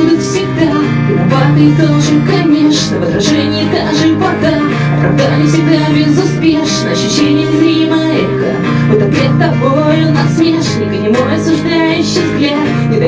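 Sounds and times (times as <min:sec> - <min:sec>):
acoustic guitar playing: 0:00.0 - 0:13.0
person singing: 0:00.0 - 0:13.0.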